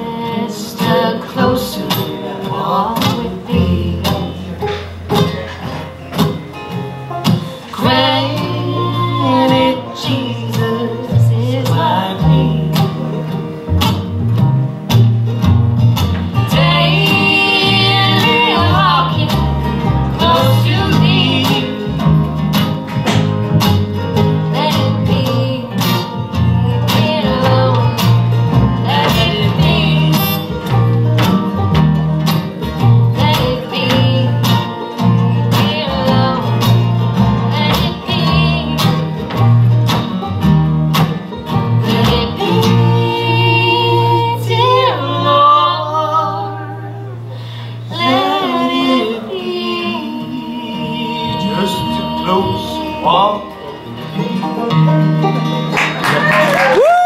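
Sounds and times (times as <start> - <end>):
acoustic guitars strummed and picked: 0.0 - 57.0
banjo: 0.0 - 57.0
upright bass walking line: 0.0 - 57.0.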